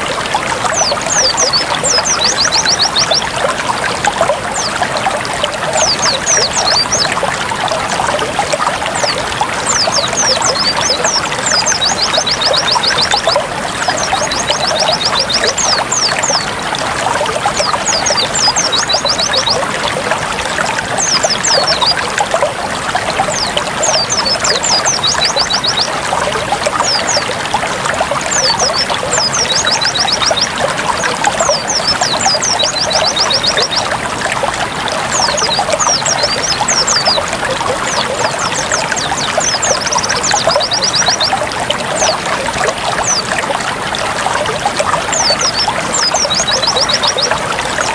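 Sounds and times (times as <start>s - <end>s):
water trickling and gurgling: 0.0s - 47.9s.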